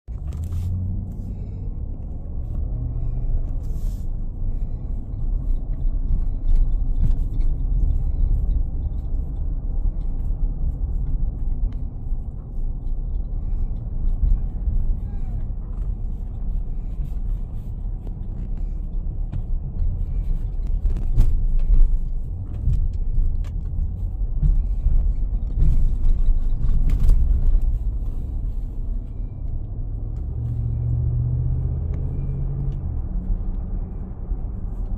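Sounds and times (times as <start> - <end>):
heavy machinery engine rumble: 0.1 - 34.9.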